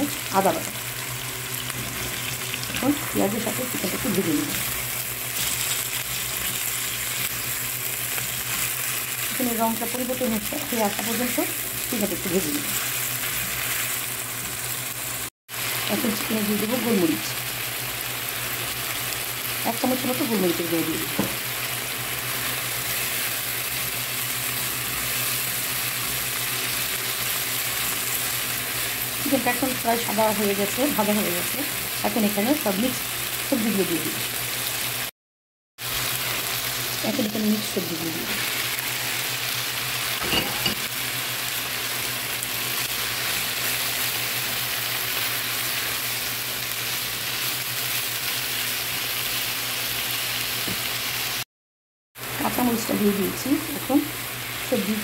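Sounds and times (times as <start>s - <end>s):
food sizzling in a frying pan: 0.0s - 35.1s, 35.8s - 51.5s, 52.2s - 55.0s.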